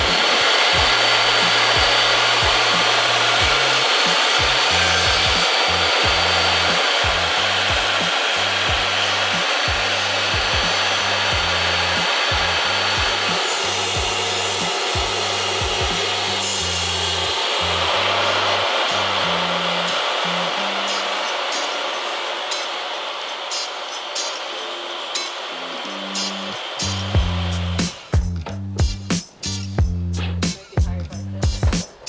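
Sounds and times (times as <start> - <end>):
music bass line: 0.0 - 21.0, 26.8 - 31.8
table saw whirring: 0.0 - 28.2.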